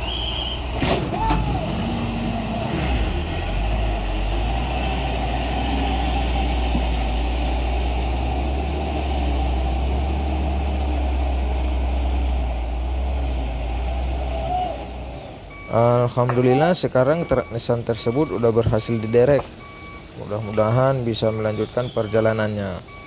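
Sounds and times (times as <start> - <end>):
truck diesel engines rumbling: 0.0 - 23.0.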